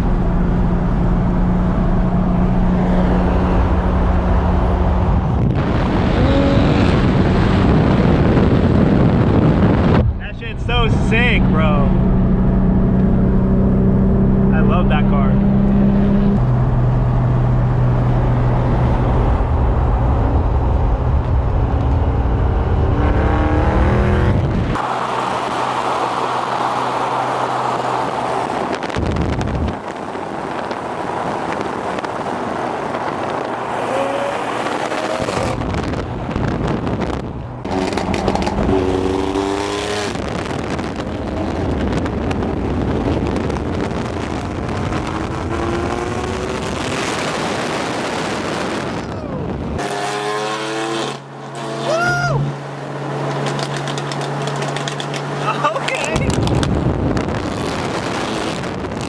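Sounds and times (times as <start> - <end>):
cars revving and accelerating: 0.0 - 59.0.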